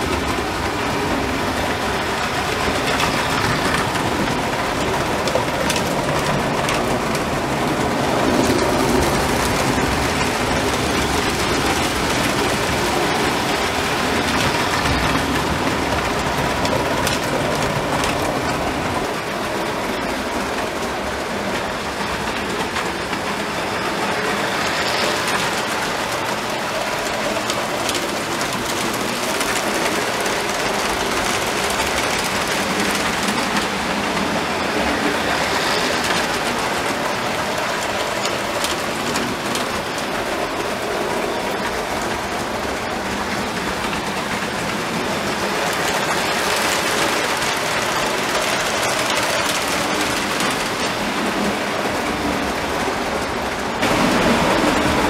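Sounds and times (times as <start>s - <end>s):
model train rumbling whir: 0.0s - 55.0s.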